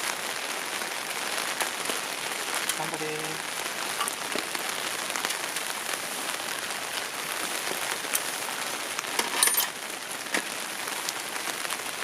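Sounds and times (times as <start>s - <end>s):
steady rain patter: 0.0s - 12.0s.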